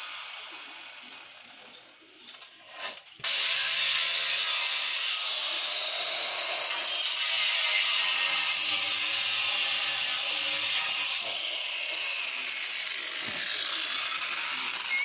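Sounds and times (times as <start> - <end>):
angle grinder cutting stone: 0.0 - 15.0.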